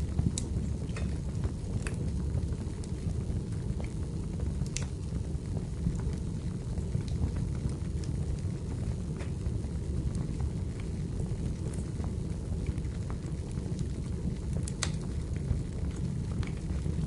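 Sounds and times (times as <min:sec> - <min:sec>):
firewood crackles and pops: 0:00.0 - 0:17.0
low rumble of flames: 0:00.0 - 0:17.0.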